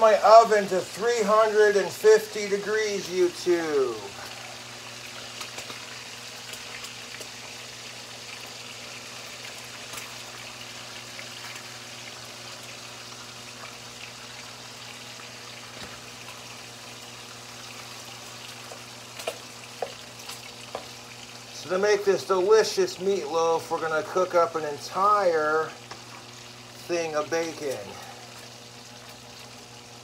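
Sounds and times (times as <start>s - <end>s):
bacon sizzling in a frying pan: 0.0s - 30.0s.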